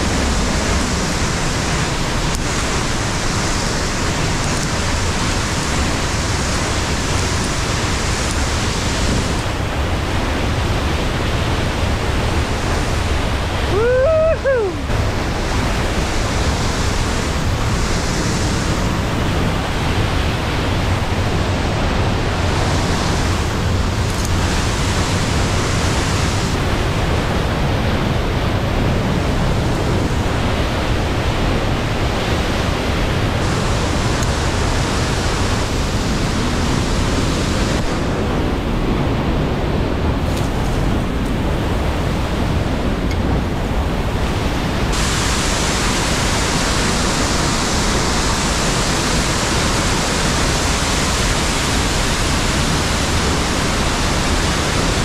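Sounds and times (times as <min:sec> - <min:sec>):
waterfall and rushing torrent: 0:00.0 - 0:55.0.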